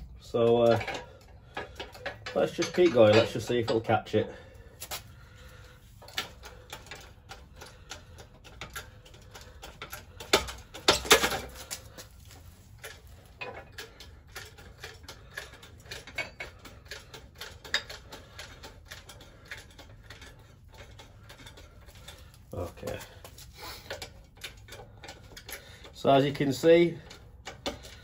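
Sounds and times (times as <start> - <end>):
metal clatter of knocks: 0.0 - 4.1, 6.0 - 12.1, 12.8 - 28.0
metal clicks of spring compressor: 0.2 - 4.2, 6.0 - 12.1, 12.8 - 28.0.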